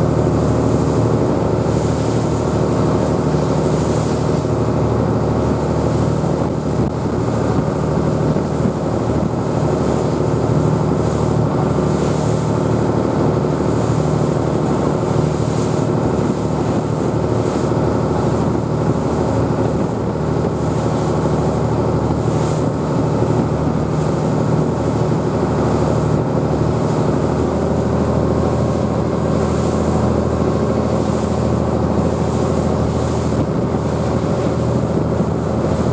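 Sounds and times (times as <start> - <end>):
boat engine droning: 0.0 - 35.9
water noise: 0.0 - 35.9
wind: 0.0 - 35.9.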